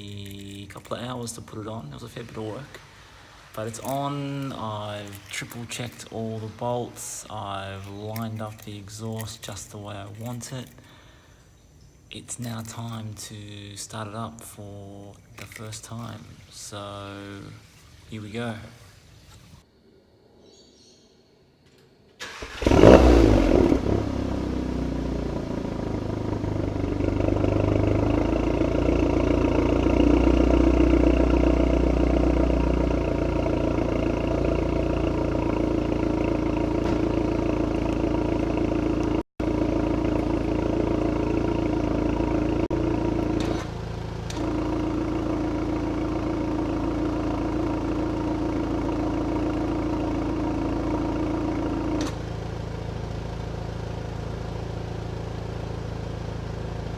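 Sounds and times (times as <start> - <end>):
car engine starting and idling: 0.0 - 18.0, 22.1 - 56.9.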